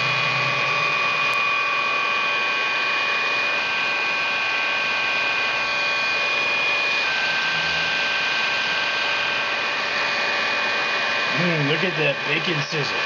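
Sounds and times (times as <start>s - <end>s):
fan motor whine: 0.0s - 13.0s
heat gun blower rushing: 0.0s - 13.0s.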